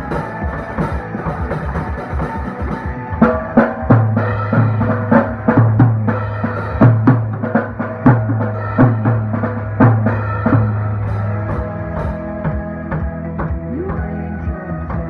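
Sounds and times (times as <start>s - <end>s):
song with bass and guitar: 0.0s - 15.0s.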